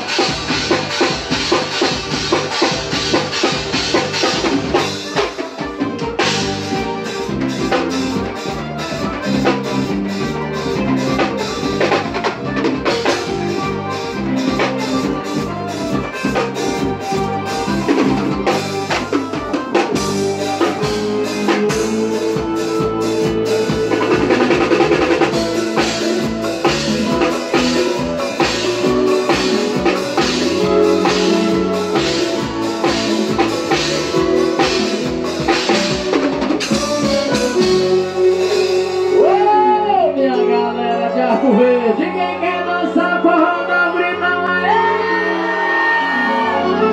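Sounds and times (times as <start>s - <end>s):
drum kit dance rhythm: 0.0s - 40.1s
accordion: 0.0s - 46.9s.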